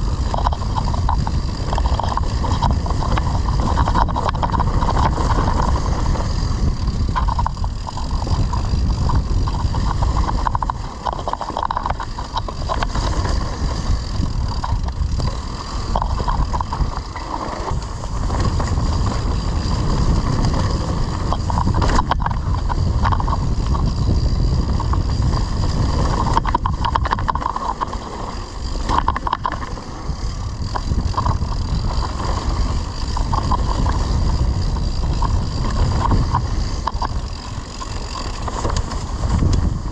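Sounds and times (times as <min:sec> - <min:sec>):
bike rattling over rough ground: 0:00.0 - 0:39.9
wind on microphone: 0:00.0 - 0:39.9.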